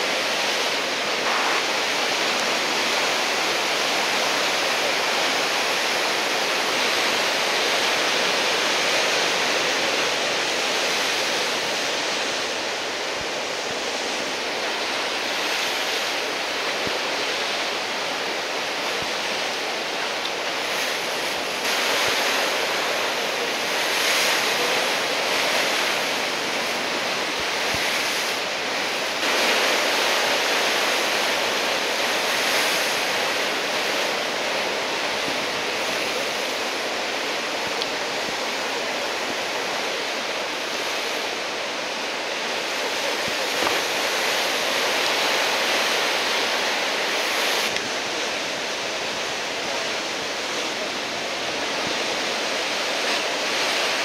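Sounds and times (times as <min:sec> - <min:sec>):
heavy surf breaking: 0:00.0 - 0:54.0.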